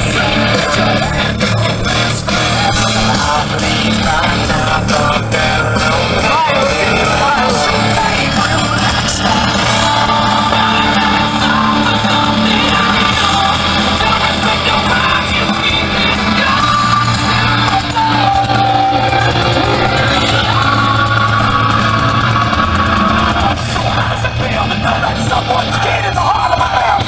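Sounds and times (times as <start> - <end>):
loud music: 0.0 - 27.0
person singing and shouting: 0.0 - 27.0.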